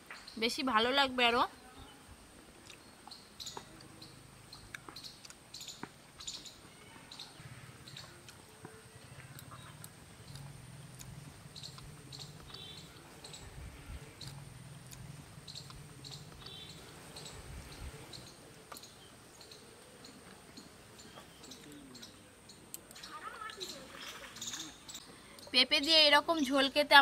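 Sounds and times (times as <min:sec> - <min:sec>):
low steady hum: 0:00.0 - 0:27.0
small birds chirping: 0:00.0 - 0:27.0.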